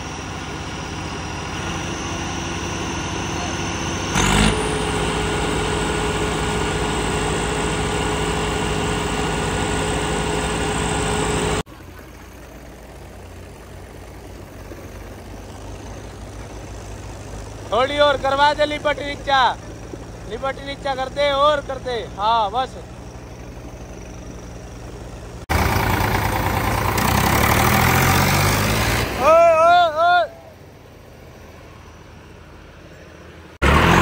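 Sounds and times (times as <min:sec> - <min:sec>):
diesel tractor engines running: 0:00.0 - 0:34.0.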